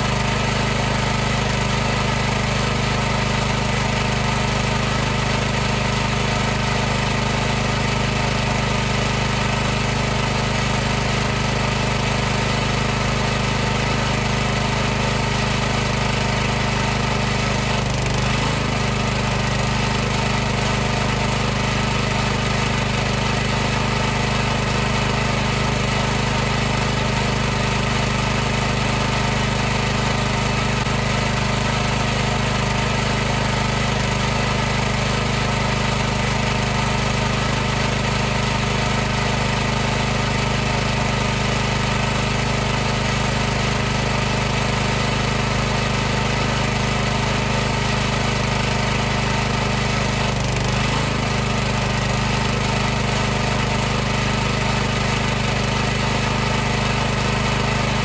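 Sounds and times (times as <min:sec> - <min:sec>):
pressure washer running: 0:00.0 - 0:58.0.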